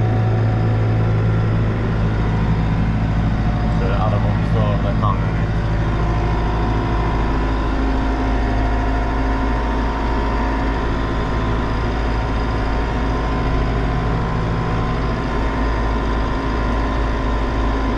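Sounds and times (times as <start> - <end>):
diesel tractor engine under load: 0.0 - 17.9.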